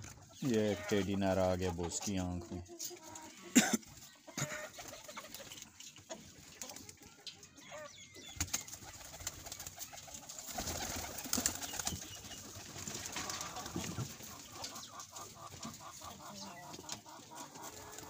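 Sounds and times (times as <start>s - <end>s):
pigeons cooing: 2.2s - 5.8s, 6.8s - 18.0s.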